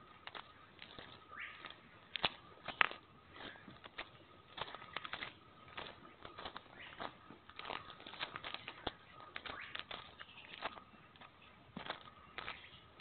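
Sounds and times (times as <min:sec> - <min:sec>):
faint birds calling: 0:00.0 - 0:13.0
footsteps crunching through dry leaves: 0:00.0 - 0:13.0.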